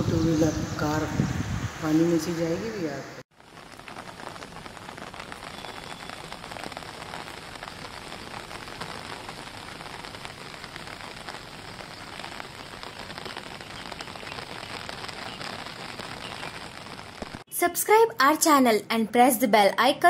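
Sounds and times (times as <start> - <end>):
heavy rain falling: 0.0 - 17.4.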